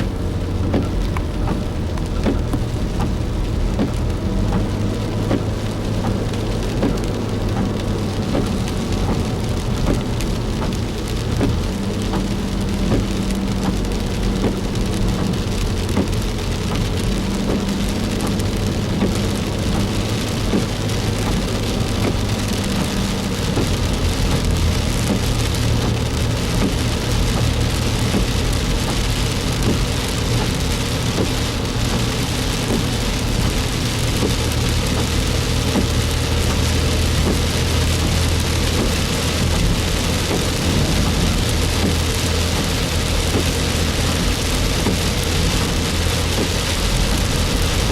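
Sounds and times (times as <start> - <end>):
engine and road hum: 0.0 - 47.9
heavy rain on vehicle: 0.0 - 47.9.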